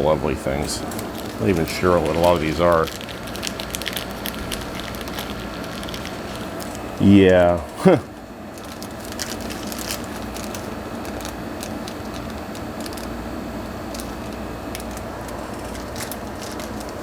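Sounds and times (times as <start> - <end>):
low background hum: 0.0 - 17.0
plastic bags crinkling: 0.4 - 17.0.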